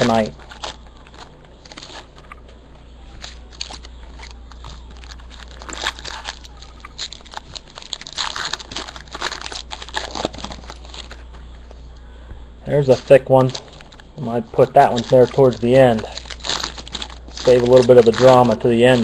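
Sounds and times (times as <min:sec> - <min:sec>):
card pack wrappers crinkling: 0:00.0 - 0:11.9, 0:12.7 - 0:19.0.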